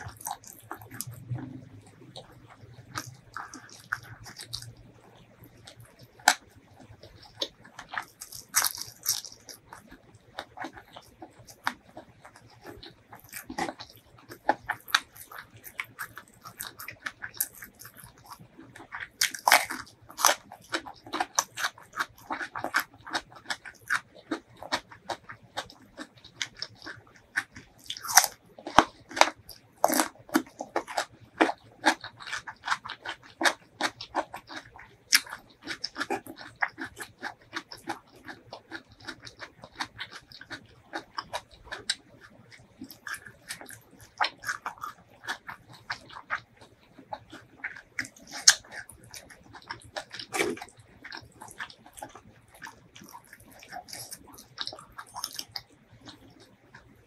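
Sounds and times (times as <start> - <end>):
crisp crunching of radish: 0.0 - 4.8, 5.6 - 57.0
wet chewing: 0.0 - 57.0.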